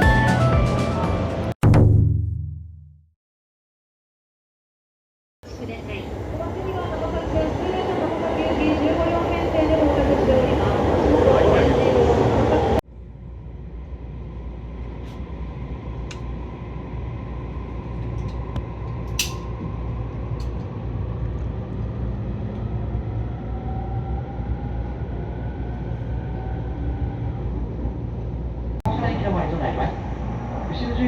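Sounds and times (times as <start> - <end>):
train rumbling: 5.4 - 31.0.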